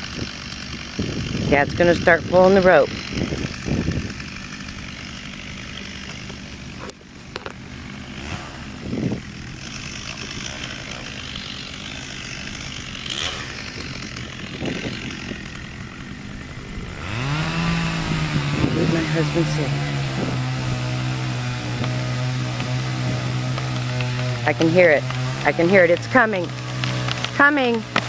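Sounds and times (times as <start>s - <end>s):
distant chainsaw cutting wood: 0.0s - 28.0s.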